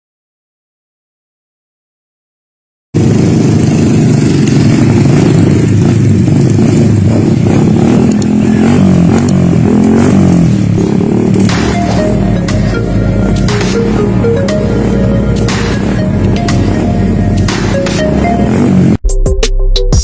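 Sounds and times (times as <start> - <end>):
motorcycle engine revving: 3.0 - 19.0.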